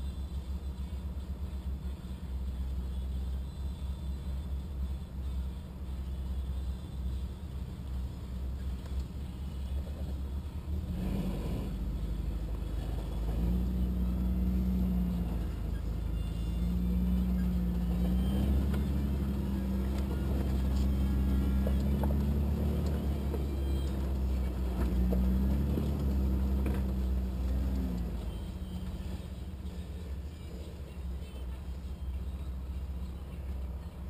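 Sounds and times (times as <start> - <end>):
engine rumbling at low revs: 0.0 - 34.0.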